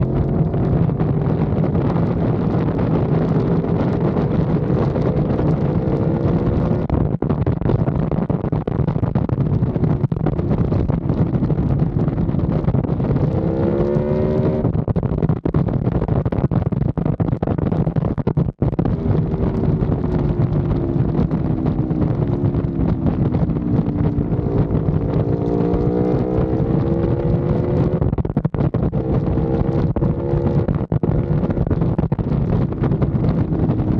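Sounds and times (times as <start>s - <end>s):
motorcycle engine at speed: 0.0s - 33.9s
wind rush: 0.0s - 33.9s.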